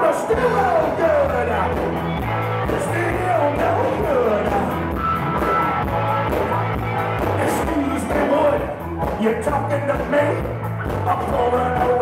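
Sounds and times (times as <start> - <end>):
electric bass line: 0.0 - 12.0
electric guitar sliding lead line: 0.0 - 12.0
drum beat: 0.3 - 12.0.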